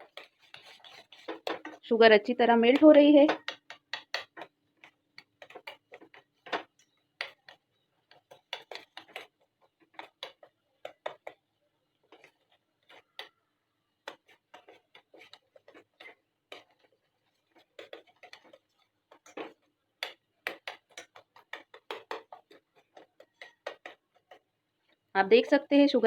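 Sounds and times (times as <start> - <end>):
melting sugar clicking: 0.0 - 25.8.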